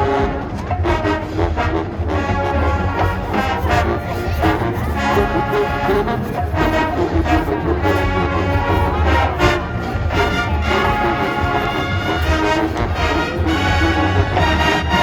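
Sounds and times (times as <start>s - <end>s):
bass drum and percussion: 0.0s - 15.0s
brass chords: 0.0s - 15.0s.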